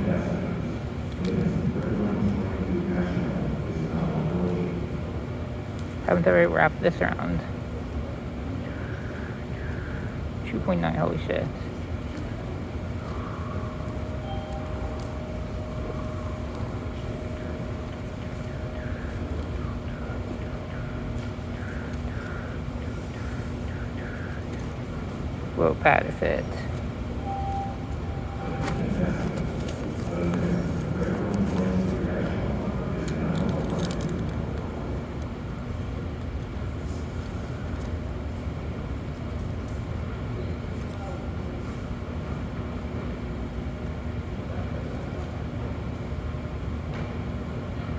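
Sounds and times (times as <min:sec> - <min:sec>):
steady whine: 0:00.0 - 0:41.0
subway train rumble: 0:00.0 - 0:47.9.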